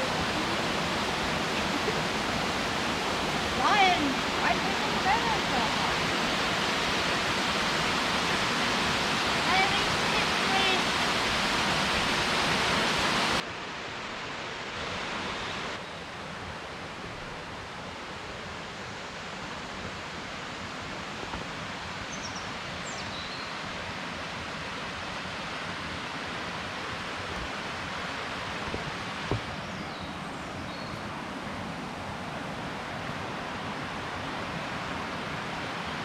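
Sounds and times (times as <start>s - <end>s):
waterfall and stream rushing: 0.0s - 36.0s.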